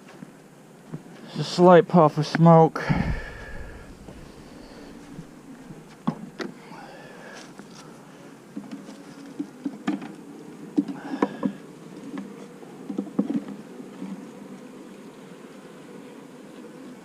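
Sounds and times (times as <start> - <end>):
honeybees buzzing: 2.8 - 17.0.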